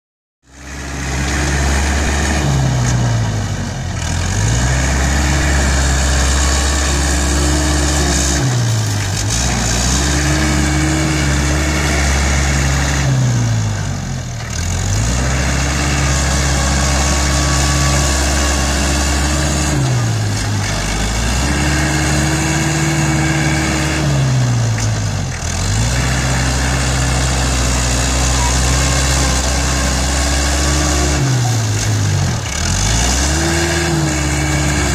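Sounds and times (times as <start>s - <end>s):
tractor diesel engine running hard: 0.4s - 34.9s.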